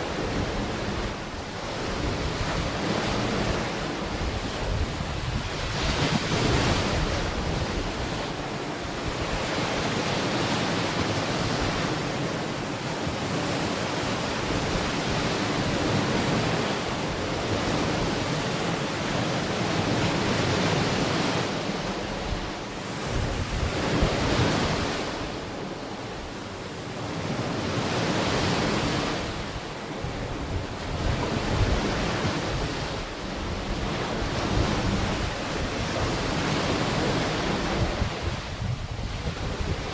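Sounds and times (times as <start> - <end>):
wind on microphone: 0.0 - 12.4, 19.5 - 26.4, 27.2 - 39.9
waves breaking on shore: 0.0 - 39.9.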